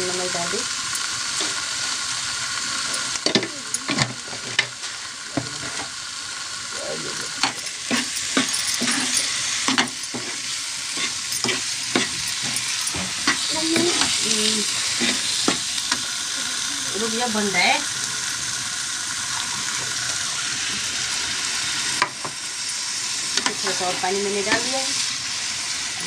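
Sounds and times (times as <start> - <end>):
masala sizzling in oil: 0.0 - 26.0.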